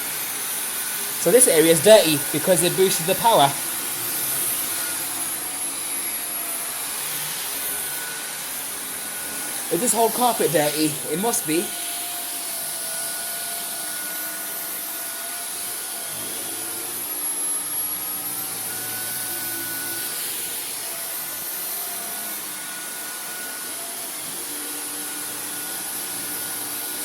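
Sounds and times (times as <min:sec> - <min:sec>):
vacuum cleaner on carpet: 0:00.0 - 0:27.0.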